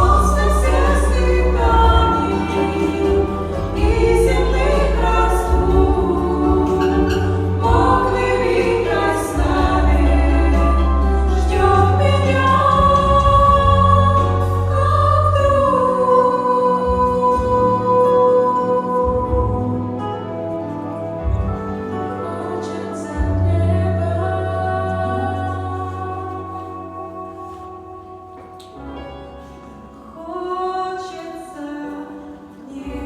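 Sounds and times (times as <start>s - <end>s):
women singing in harmony: 0.0s - 28.0s, 29.4s - 33.0s
instrumental accompaniment: 0.0s - 31.1s.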